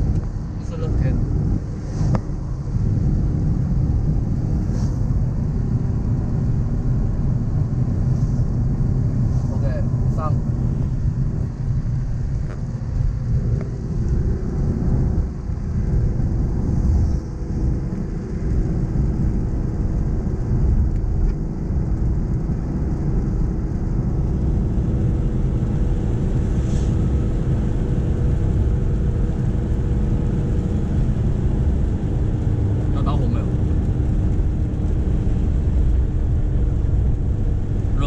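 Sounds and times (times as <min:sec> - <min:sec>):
engine and road rumble in cab: 0:00.0 - 0:38.0.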